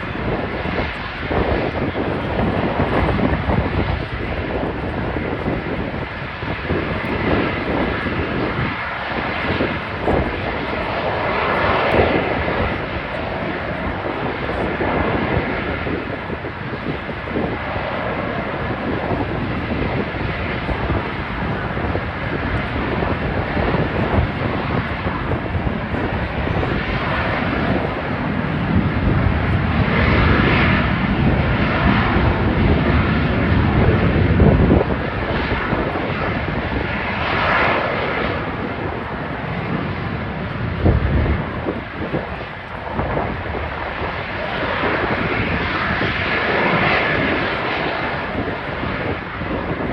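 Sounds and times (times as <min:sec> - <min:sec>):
airplane engine rushing: 0:00.0 - 0:49.9.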